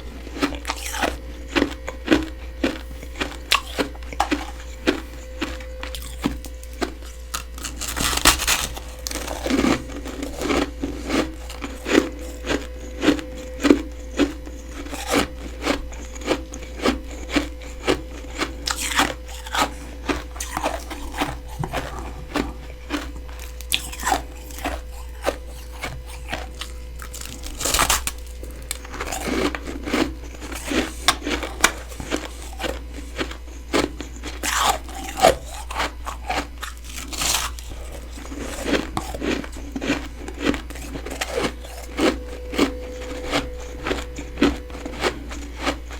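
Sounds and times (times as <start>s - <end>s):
crunchy frost chewing: 0.0s - 45.9s
steady low hum: 0.0s - 45.9s.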